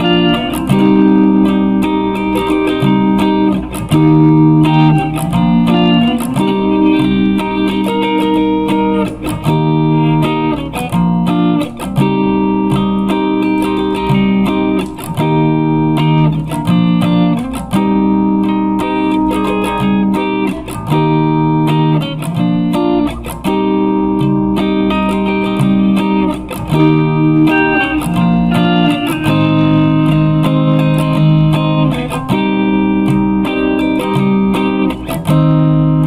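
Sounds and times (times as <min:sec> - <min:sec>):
plucked guitar melody: 0:00.0 - 0:36.0.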